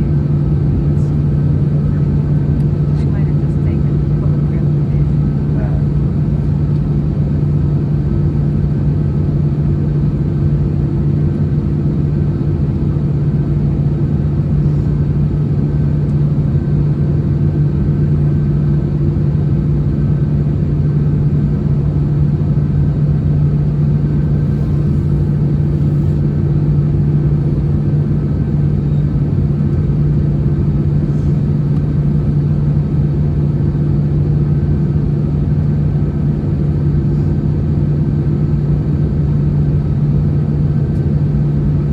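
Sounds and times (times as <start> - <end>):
aircraft cabin drone: 0.0 - 41.9.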